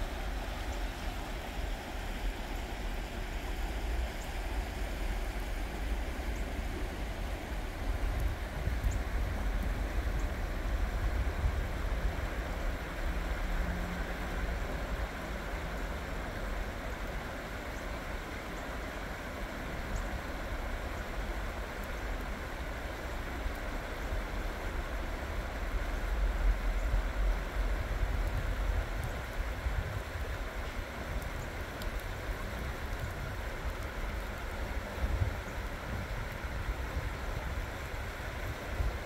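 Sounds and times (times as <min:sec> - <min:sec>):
water rushing over rocks: 0:00.0 - 0:39.0.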